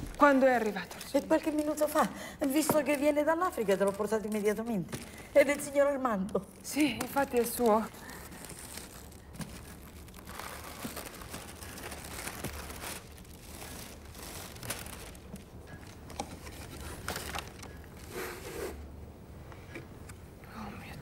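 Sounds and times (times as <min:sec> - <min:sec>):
wrapping paper rustling: 0:00.0 - 0:18.8.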